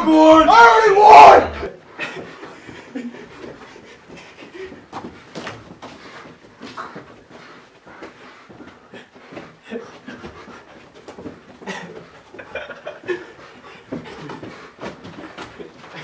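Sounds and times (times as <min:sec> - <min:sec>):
people panting: 0:01.5 - 0:16.0
thumps and scuffs: 0:02.2 - 0:16.0.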